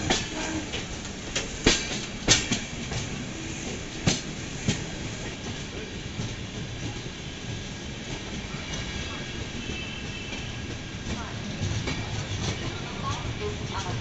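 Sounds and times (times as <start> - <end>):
train coach rumbling: 0.0 - 14.0
wheels clacking on rails: 0.0 - 14.0.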